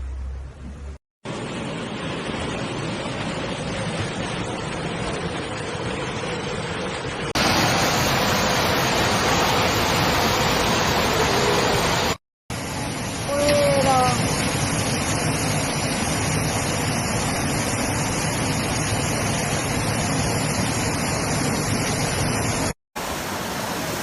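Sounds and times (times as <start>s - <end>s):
floodwater rushing: 1.3s - 24.0s.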